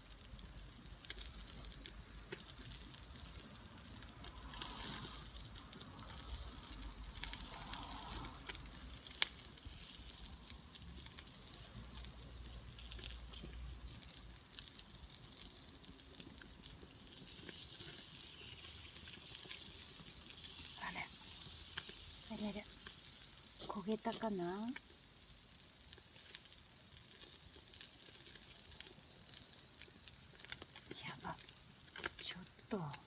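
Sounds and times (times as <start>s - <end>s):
campfire crackling: 0.0s - 33.0s
high-pitched insect trill: 0.0s - 33.0s.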